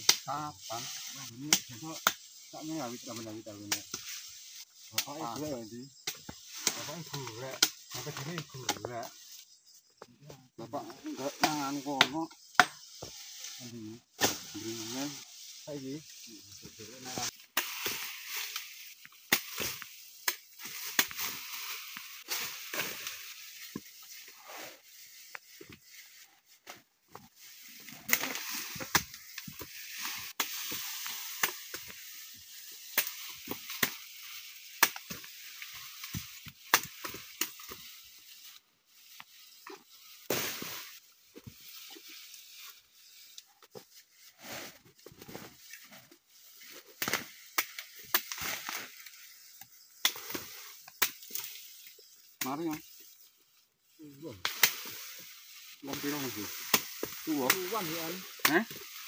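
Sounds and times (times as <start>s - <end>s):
undergrowth rustling and crackling: 0.0s - 59.0s.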